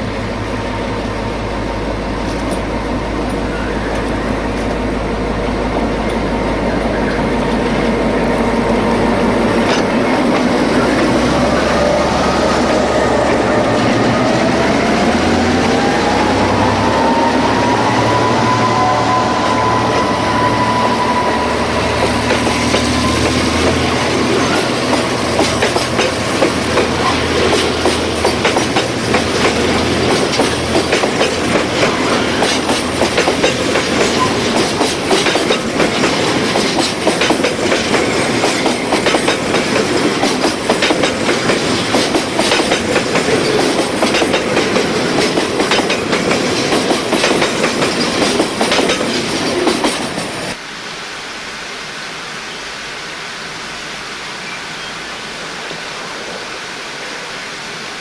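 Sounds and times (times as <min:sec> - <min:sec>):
wagons clacking over rail joints: 0:00.0 - 0:50.6
train engine drone: 0:00.0 - 0:58.0.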